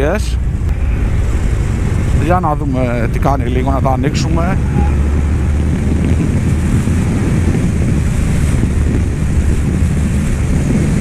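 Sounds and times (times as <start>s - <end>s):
motorcycle engine drone: 0.0s - 11.0s
wind rushing over microphone: 0.0s - 11.0s.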